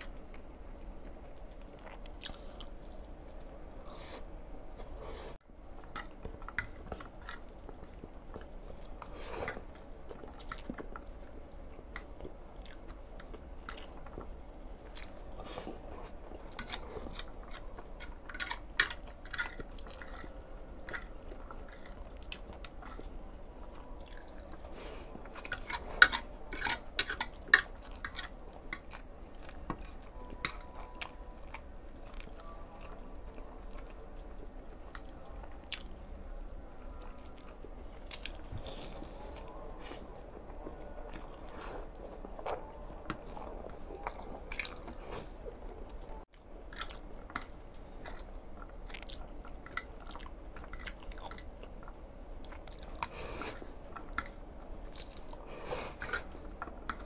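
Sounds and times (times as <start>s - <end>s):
chewing noodles: 0.0s - 57.0s.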